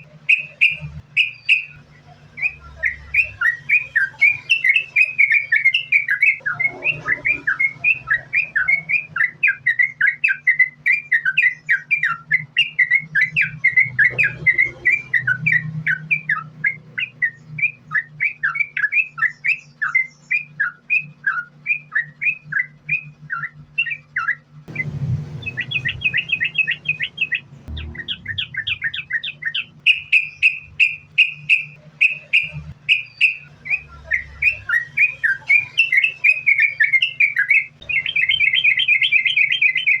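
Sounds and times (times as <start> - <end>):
bird chattering song: 0.0 - 40.0
faint low hum: 0.0 - 40.0.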